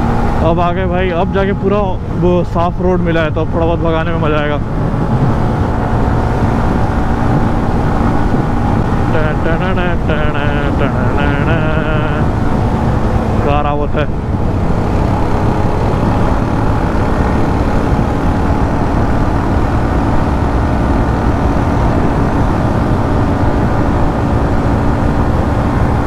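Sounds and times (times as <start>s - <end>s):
motorcycle engine running: 0.0s - 26.0s
wind on microphone: 0.0s - 26.0s.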